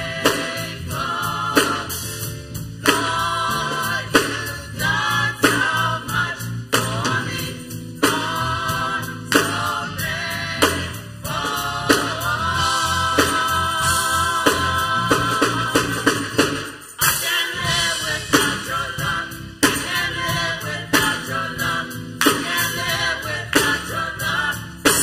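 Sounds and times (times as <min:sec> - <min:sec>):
women singing together: 0:00.0 - 0:02.1, 0:02.8 - 0:16.2, 0:17.0 - 0:25.0
keyboard: 0:00.0 - 0:25.0
steady drum beat: 0:00.0 - 0:25.0.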